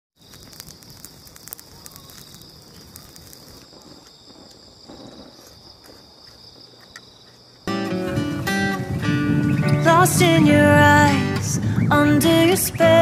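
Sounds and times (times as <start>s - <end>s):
campfire crackling and popping: 0.2s - 13.0s
night insects chirping: 0.2s - 13.0s.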